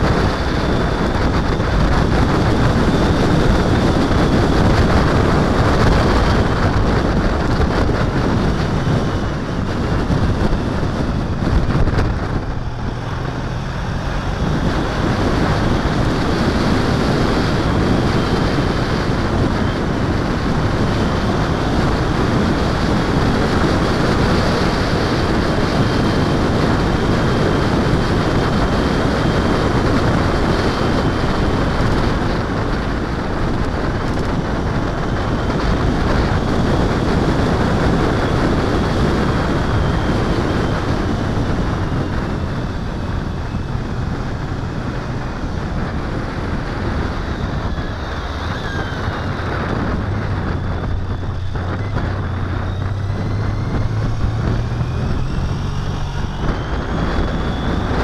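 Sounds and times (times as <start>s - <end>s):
motorcycle engine hum: 0.0s - 58.0s
wind rushing over microphone: 0.0s - 58.0s.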